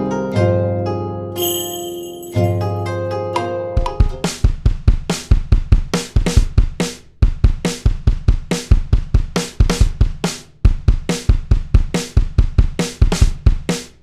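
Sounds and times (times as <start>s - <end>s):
drum-kit beat: 2.3s - 14.0s.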